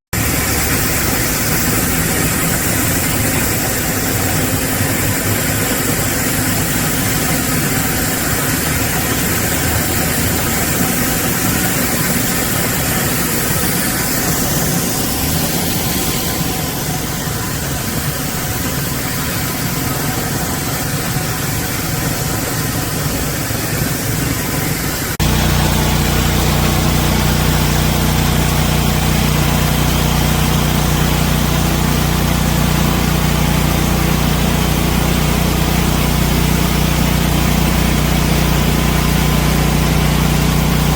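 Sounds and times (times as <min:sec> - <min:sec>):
pressure washer motor running: 0:00.1 - 0:40.9
hiss of spray: 0:00.2 - 0:40.0.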